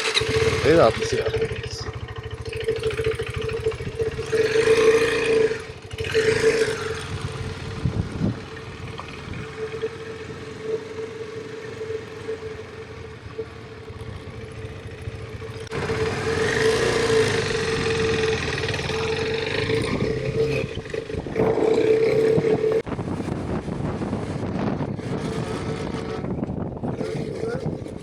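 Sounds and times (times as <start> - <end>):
motorcycle engine cruising: 0.0 - 28.0
road noise: 0.0 - 28.0
rushing wind: 0.0 - 28.0
steady whine: 0.6 - 27.8.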